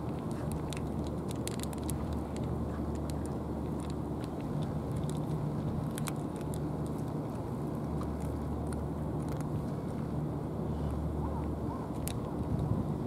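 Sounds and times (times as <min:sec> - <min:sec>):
cat crunching dry kibble: 0:00.0 - 0:10.2, 0:10.9 - 0:13.0
low engine-like hum: 0:00.0 - 0:13.0.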